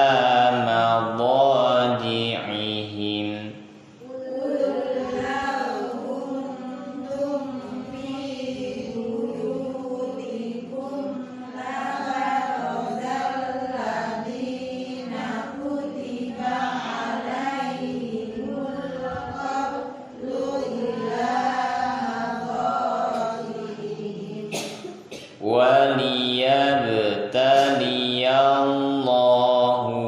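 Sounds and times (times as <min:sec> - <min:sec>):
person chanting recitation: 0:00.0 - 0:30.0.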